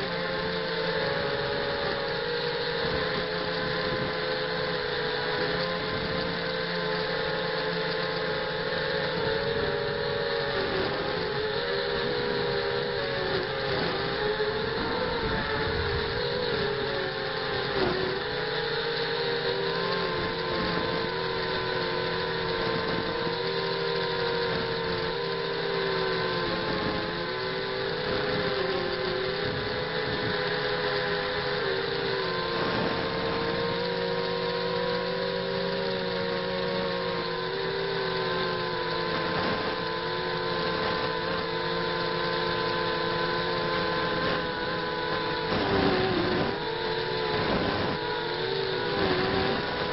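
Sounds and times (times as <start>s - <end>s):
drone motors whining: 0.0s - 49.9s.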